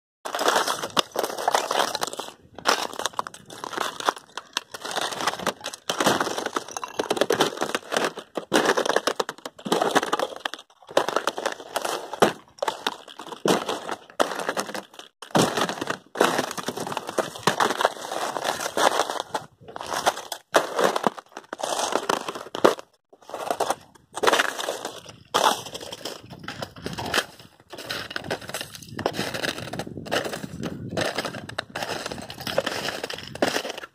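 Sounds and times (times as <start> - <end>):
boots crunching on thin ice: 0.3 - 33.9.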